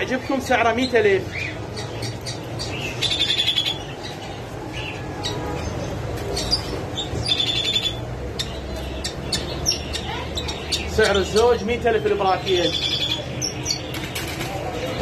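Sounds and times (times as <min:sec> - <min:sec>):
small birds chirping in trills: 0:00.0 - 0:15.0.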